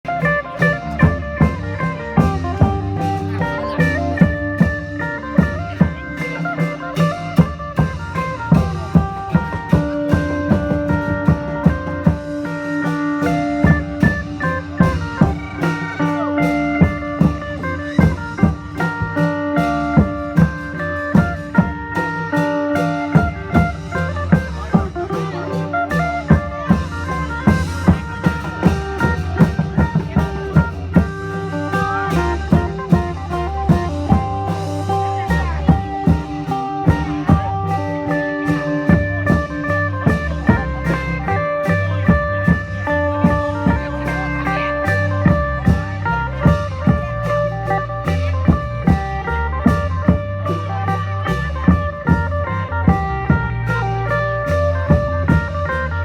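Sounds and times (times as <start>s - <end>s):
steady drum beat: 0.0s - 56.0s.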